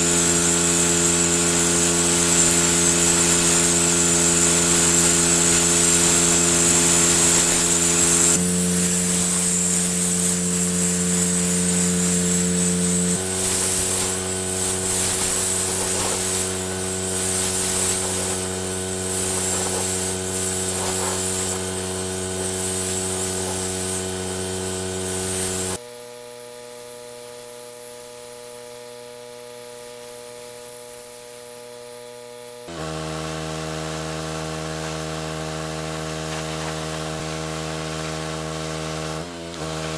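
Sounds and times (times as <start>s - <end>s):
pressure washer machine hum: 0.0s - 25.8s, 32.7s - 39.9s
water jet spraying hiss: 0.0s - 25.8s, 32.8s - 39.9s.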